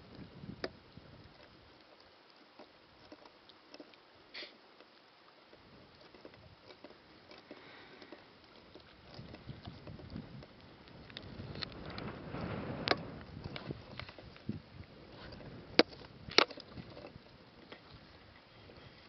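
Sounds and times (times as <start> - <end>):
faint wind: 0.0 - 19.0
wavelets lapping on rocks: 0.0 - 19.0.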